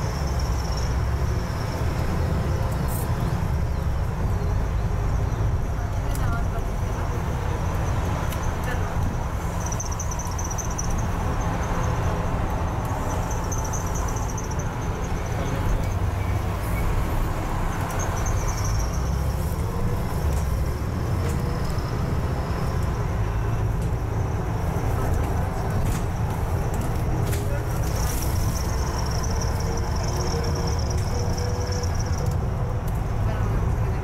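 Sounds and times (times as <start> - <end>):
bus engine and road drone: 0.0 - 34.0.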